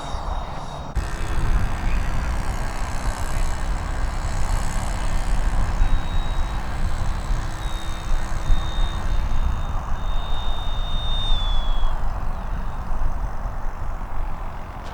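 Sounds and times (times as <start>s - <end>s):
model aircraft whine: 0.0s - 14.9s
wind buffeting microphone: 0.0s - 14.9s.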